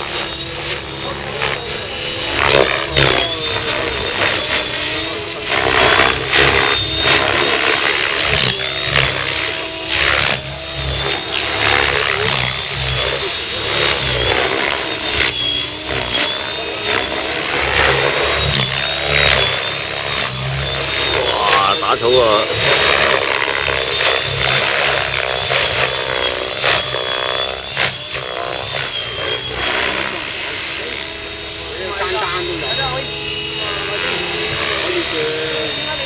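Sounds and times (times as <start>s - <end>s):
rc helicopter motor whine: 0.0s - 36.0s.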